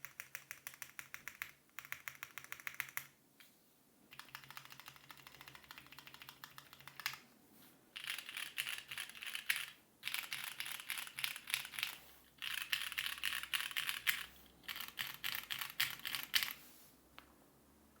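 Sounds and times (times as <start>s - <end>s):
rapid mechanical keyboard typing: 0.0s - 3.1s, 4.1s - 7.2s, 8.0s - 16.6s.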